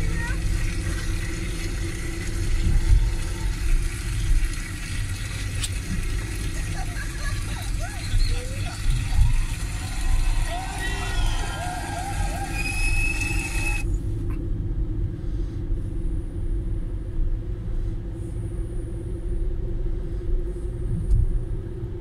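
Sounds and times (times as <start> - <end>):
engine and road noise rumble: 0.0 - 22.0
faint constant hum: 0.0 - 22.0.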